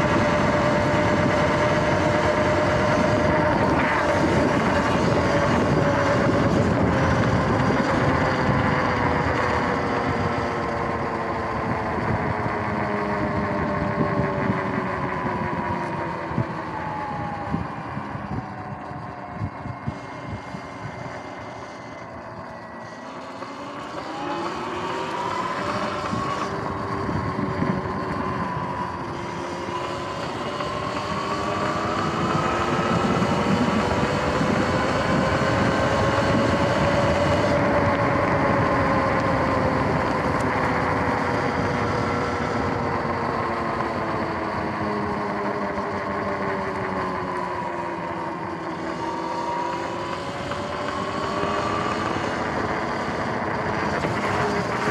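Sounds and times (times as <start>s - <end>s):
electric motor whining: 0.0s - 54.9s
steady rushing noise: 0.0s - 54.9s.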